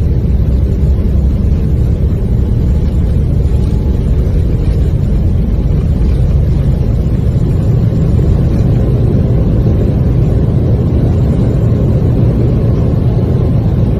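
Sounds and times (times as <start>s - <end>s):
airplane engines roaring: 0.0s - 13.9s.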